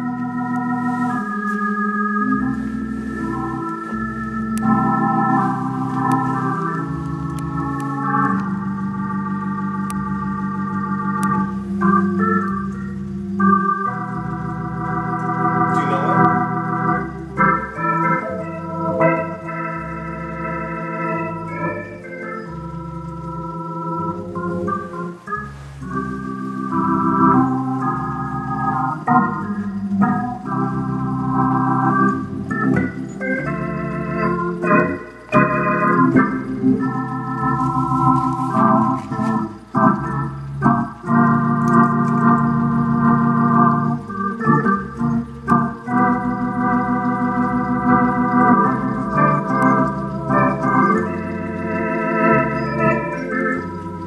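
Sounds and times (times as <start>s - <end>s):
organ playing slow tune: 0.0s - 54.0s.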